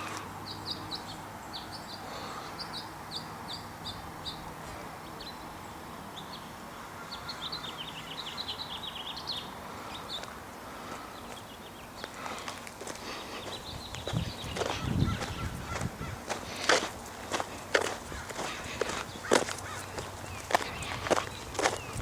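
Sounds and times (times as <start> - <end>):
small songbird chirping: 0.0 - 12.5, 13.2 - 16.2, 18.9 - 22.0.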